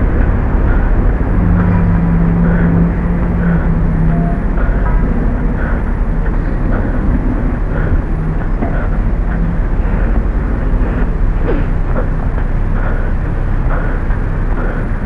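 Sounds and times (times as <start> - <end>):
faint footsteps: 0.0 - 15.0
low rumble of wind: 0.0 - 15.0.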